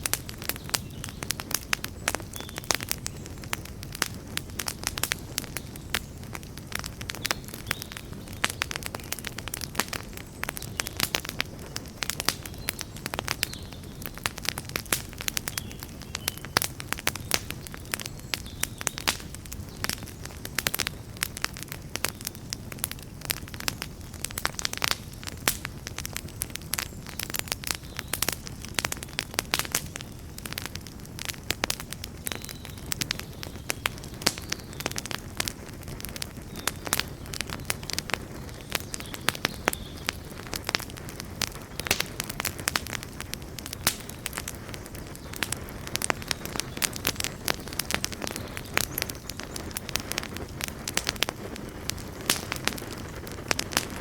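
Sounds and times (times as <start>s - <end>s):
campfire crackling and roaring: 0.0s - 54.0s.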